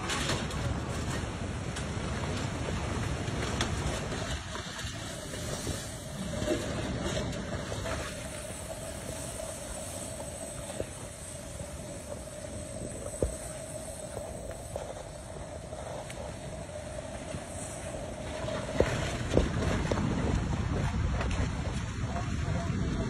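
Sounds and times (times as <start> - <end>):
low rushing rumble of mud: 0.0 - 23.0.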